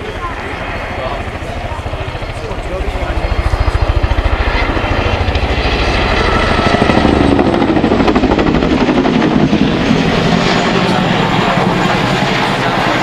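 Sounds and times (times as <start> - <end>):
helicopter rotors thudding: 0.0 - 13.0
turbine noise: 0.0 - 13.0.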